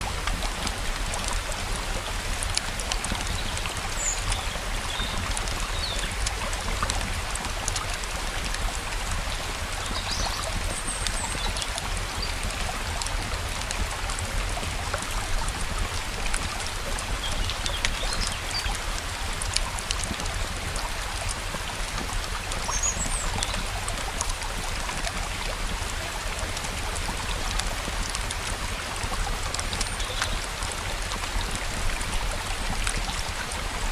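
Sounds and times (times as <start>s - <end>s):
rainfall: 0.0s - 33.9s
stream water flowing: 0.0s - 33.9s.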